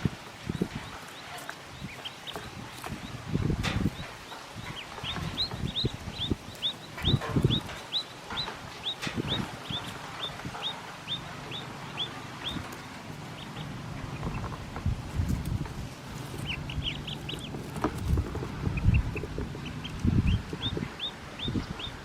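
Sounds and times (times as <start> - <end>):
duckling peeping: 0.4 - 22.0
low bumps and rustling: 2.3 - 22.0.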